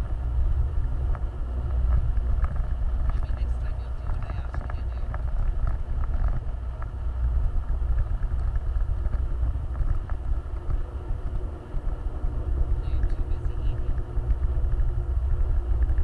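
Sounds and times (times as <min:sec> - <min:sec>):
off-road vehicle rumbling: 0:00.0 - 0:16.0.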